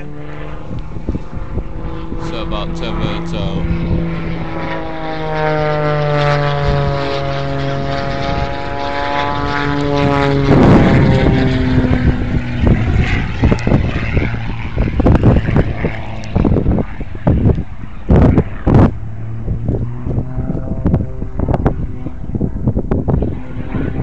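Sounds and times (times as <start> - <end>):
propeller airplane engine droning: 0.0 - 24.0
wind buffeting microphone: 0.0 - 24.0.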